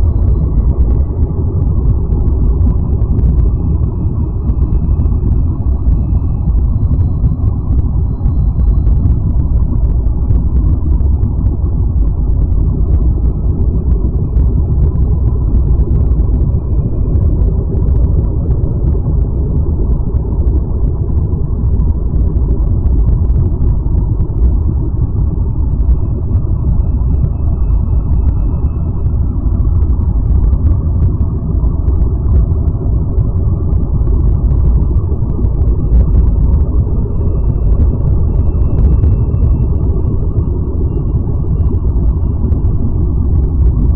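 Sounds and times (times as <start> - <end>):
deep steady rumble: 0.0 - 43.9.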